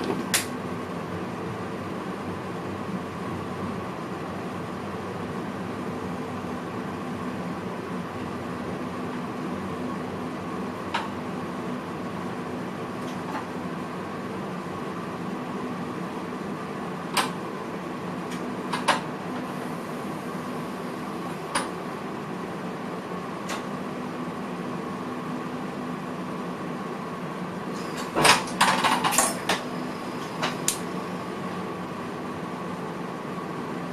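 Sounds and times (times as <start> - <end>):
electric train cab equipment hum: 0.0 - 33.9.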